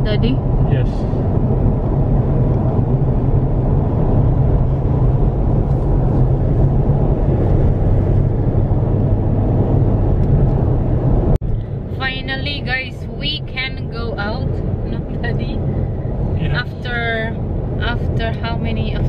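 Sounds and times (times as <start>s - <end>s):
car cabin road and engine drone: 0.0s - 19.0s.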